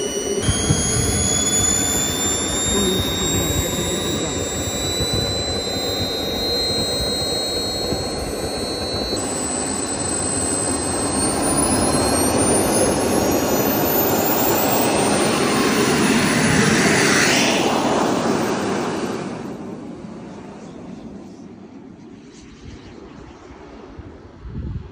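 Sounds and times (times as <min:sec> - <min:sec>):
model jet turbine whining: 0:00.0 - 0:20.1.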